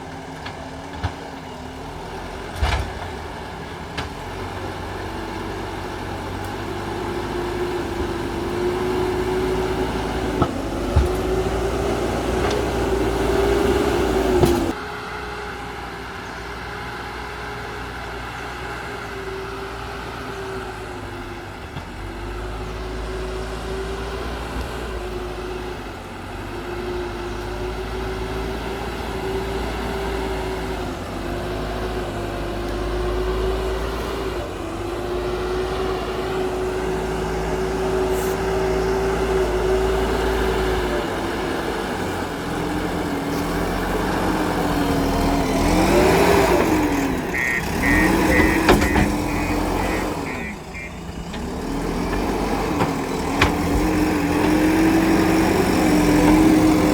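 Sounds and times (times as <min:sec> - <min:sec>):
diesel engine under load: 0:00.0 - 0:56.9.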